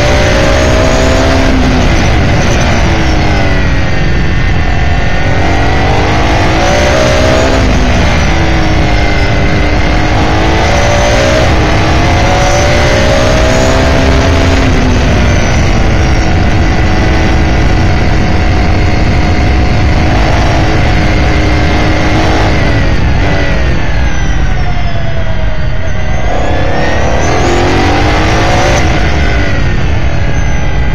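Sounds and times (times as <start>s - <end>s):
racing car engine: 0.0s - 30.9s.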